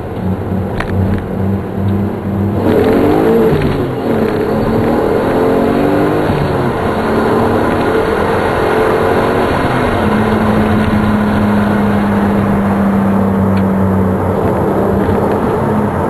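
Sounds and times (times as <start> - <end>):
car engine steady note: 0.0 - 16.0
road and wind noise: 0.0 - 16.0.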